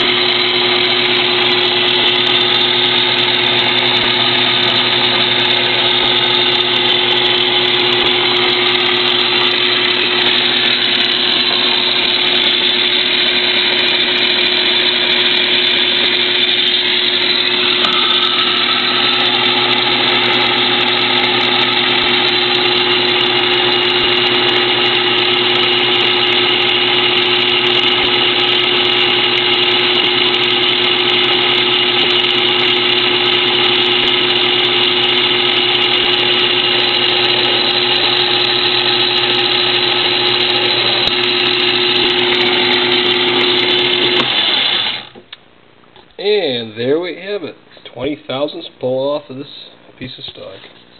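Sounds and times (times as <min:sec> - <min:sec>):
metal lathe whining: 0:00.0 - 0:45.2.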